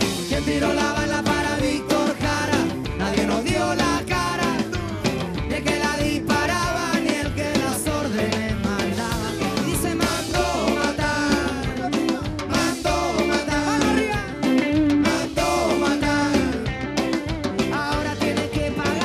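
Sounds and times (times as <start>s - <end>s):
band playing ska rock: 0.0s - 19.0s.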